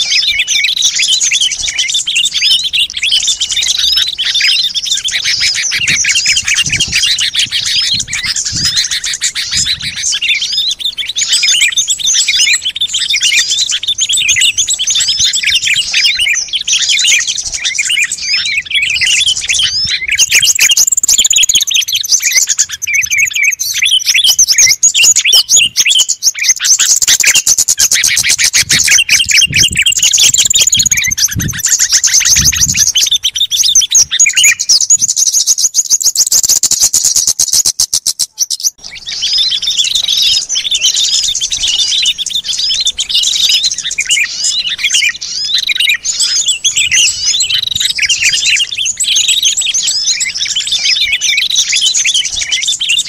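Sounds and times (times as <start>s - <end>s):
birds chattering chorus: 0.0s - 53.0s
songbirds chirping and twittering: 0.0s - 53.0s.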